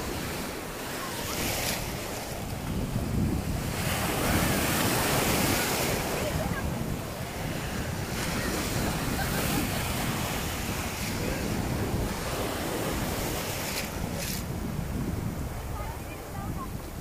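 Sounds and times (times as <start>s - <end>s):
small waves breaking: 0.0s - 17.0s
wind buffeting microphone: 0.0s - 17.0s.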